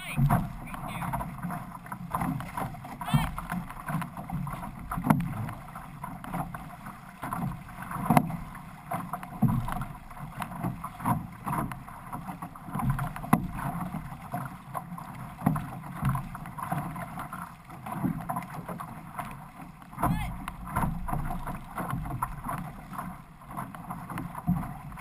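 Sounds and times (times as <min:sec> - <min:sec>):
paddle splashing: 0:00.0 - 0:25.0
water rushing past hull: 0:00.0 - 0:25.0.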